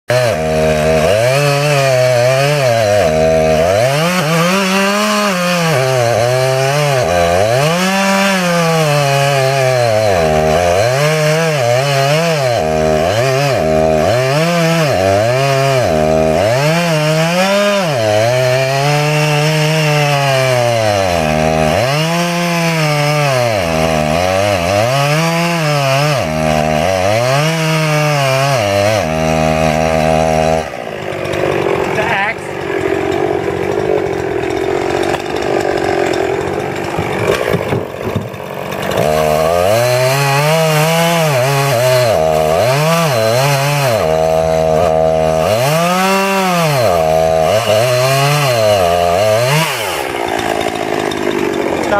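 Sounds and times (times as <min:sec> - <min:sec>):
chainsaw cutting wood: 0:00.1 - 0:51.9.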